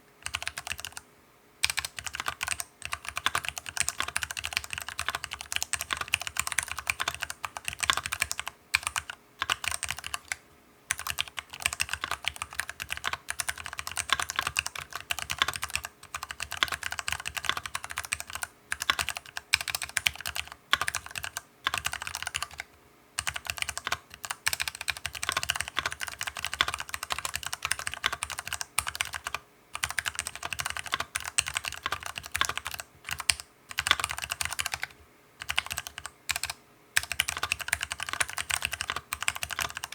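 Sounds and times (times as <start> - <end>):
fast typing on mechanical keyboard: 0.2 - 1.0, 1.6 - 39.9.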